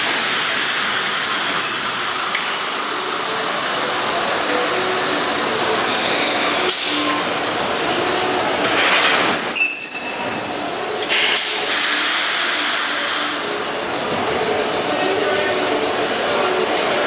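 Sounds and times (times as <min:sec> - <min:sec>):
subway train running: 0:00.0 - 0:17.0
wheels squealing on rails: 0:00.0 - 0:17.0.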